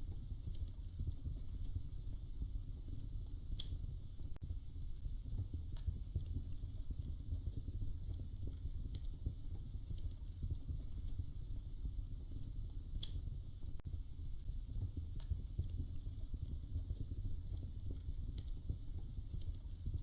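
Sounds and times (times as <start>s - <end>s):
wood fire crackling: 0.0s - 20.0s
sharp pops from fire: 0.1s - 20.0s.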